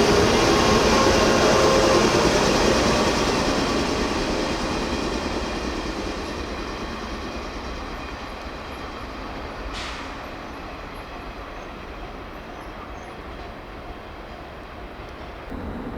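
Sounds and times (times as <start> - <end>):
electric train running on track: 0.0 - 15.9.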